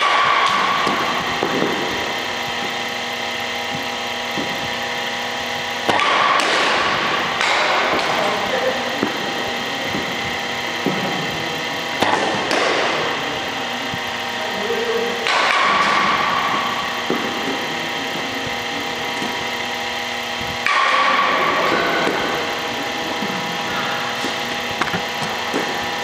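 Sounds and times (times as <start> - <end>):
small engine running: 0.0 - 26.0.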